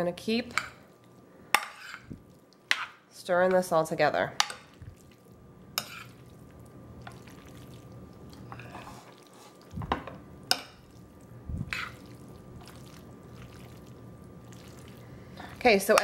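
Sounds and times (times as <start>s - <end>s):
wet squishing of stirred pasta: 0.6s - 3.0s, 4.5s - 9.8s, 10.4s - 16.0s.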